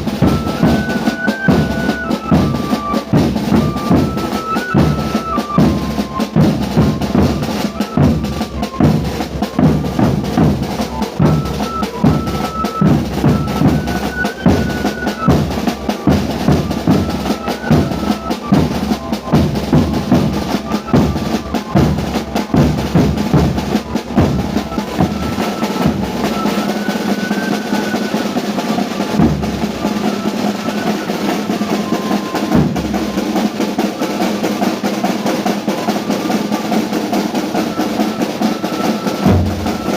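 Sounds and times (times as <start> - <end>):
high melody: 0.0 - 39.9
snare drum beating: 0.0 - 39.9.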